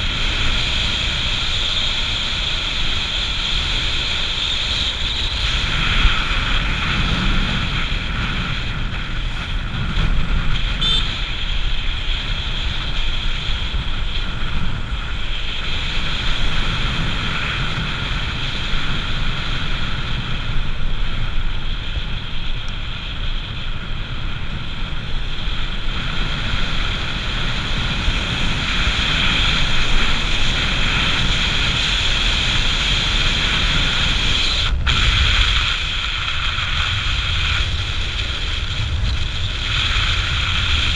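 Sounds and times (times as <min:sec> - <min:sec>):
motorcycle engine: 0:00.0 - 0:40.9
road noise: 0:00.0 - 0:40.9
wind on microphone: 0:00.0 - 0:40.9.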